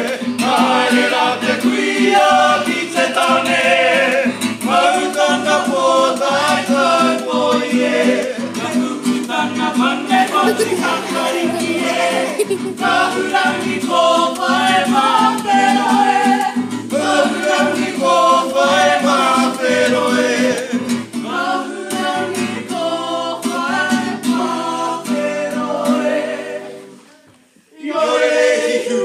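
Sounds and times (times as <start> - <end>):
acoustic guitar: 0.0 - 29.0
voices singing together: 0.0 - 29.0.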